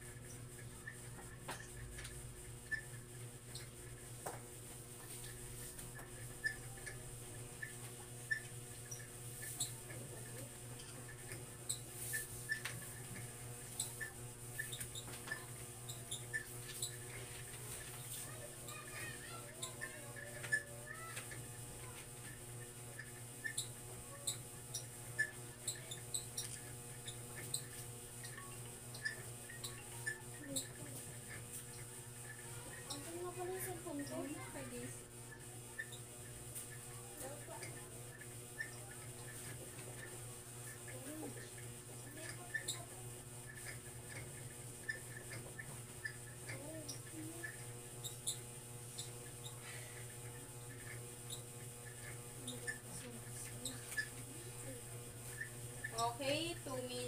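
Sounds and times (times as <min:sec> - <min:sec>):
short clicks and squeaks: 0:00.2 - 0:03.8, 0:06.0 - 0:07.0, 0:07.6 - 0:13.0, 0:13.6 - 0:22.4, 0:23.0 - 0:34.2, 0:35.3 - 0:49.6, 0:50.3 - 0:54.3.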